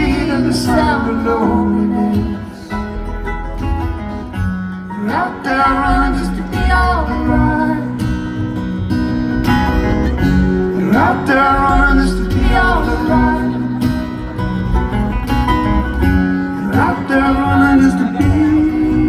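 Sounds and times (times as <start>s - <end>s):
acoustic band playing: 0.0s - 19.0s.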